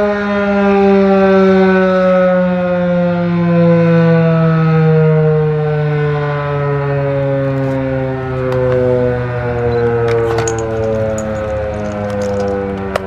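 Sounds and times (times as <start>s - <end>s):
outdoor warning siren winding down: 0.0s - 13.0s.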